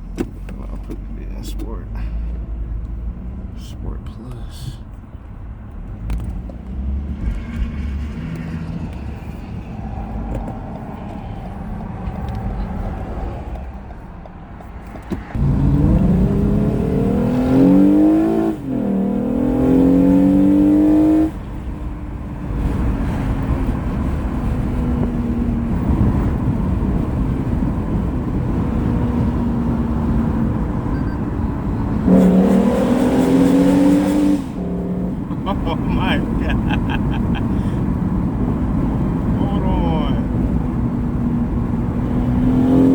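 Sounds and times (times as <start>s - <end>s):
car engine revving through exhaust: 5.7s - 13.9s, 15.3s - 42.9s.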